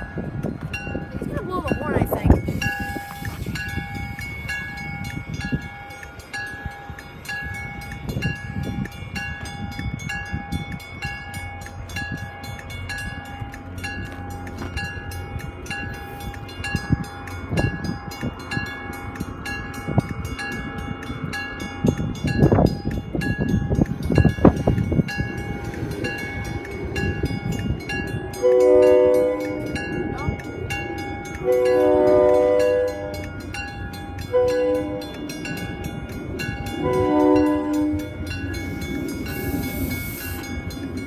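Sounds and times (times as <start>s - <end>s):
crossing warning bell ringing: 0.0s - 41.0s
train wheels rumbling and clacking: 0.0s - 41.0s.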